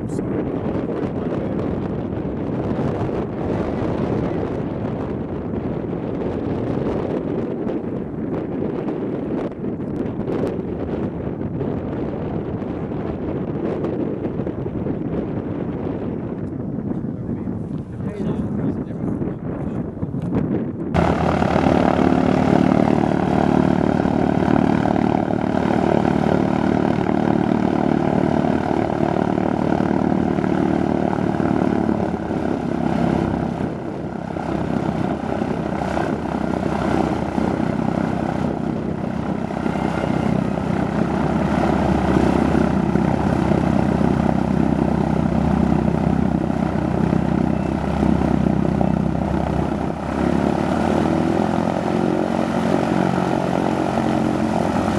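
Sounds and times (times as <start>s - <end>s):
propeller aircraft engines droning: 0.0s - 54.9s.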